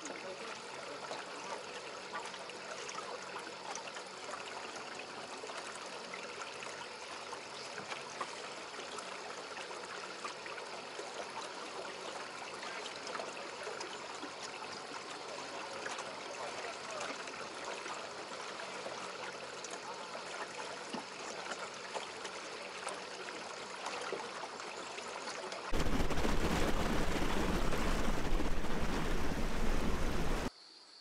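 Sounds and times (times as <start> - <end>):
small water splashes: 0.0 - 30.5.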